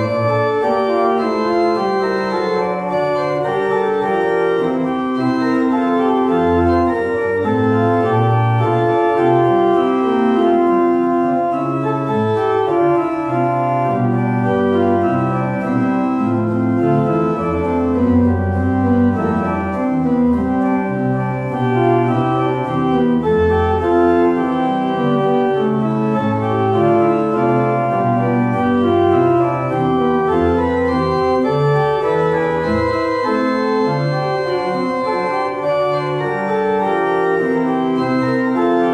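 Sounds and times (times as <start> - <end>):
organ playing chords: 0.0 - 38.9.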